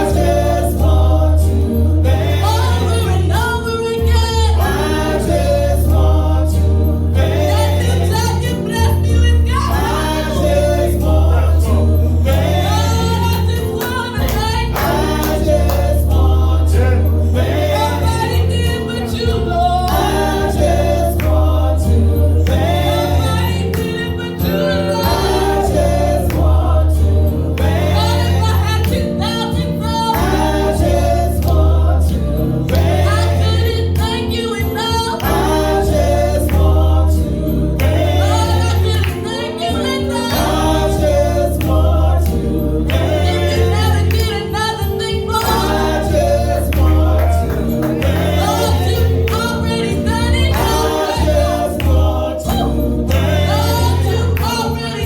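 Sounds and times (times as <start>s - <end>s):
bass line: 0.0s - 34.4s, 35.2s - 39.2s, 40.1s - 55.0s
choir singing gospel: 0.0s - 55.0s
instrumental accompaniment: 0.0s - 55.0s.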